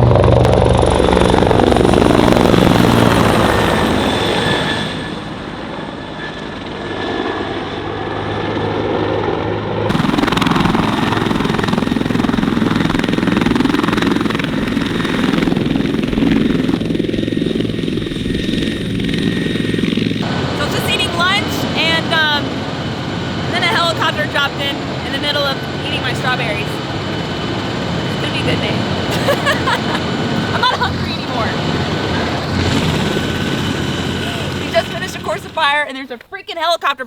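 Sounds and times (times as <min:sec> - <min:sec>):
helicopter rotor throb: 0:00.0 - 0:36.4.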